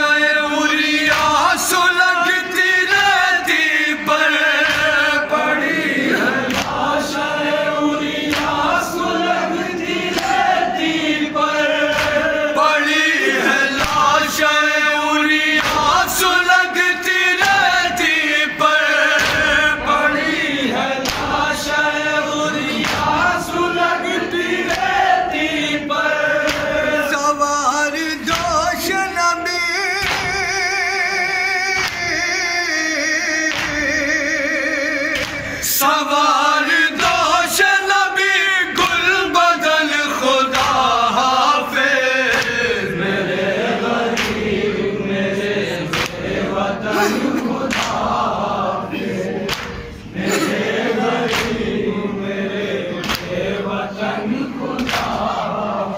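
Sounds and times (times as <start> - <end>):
men chanting in chorus: 0.0 - 55.9.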